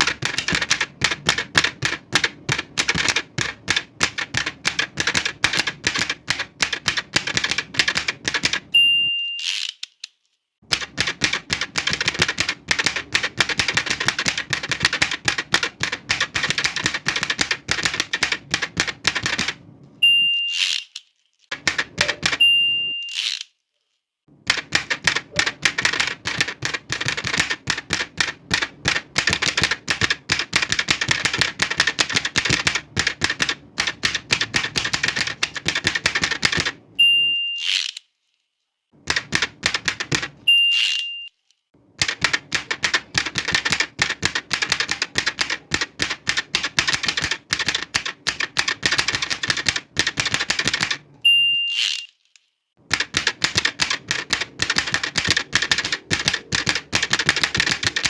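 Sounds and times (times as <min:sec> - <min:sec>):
typewriter keys striking: 0:00.0 - 0:08.7, 0:10.7 - 0:19.6, 0:21.5 - 0:22.4, 0:24.4 - 0:36.8, 0:39.0 - 0:41.1, 0:42.0 - 0:51.1, 0:52.9 - 0:58.0
typewriter carriage return: 0:00.0 - 0:10.1, 0:10.7 - 0:19.6, 0:20.4 - 0:23.5, 0:24.4 - 0:36.8, 0:37.4 - 0:38.0, 0:39.0 - 0:41.3, 0:42.0 - 0:52.3, 0:52.9 - 0:58.0.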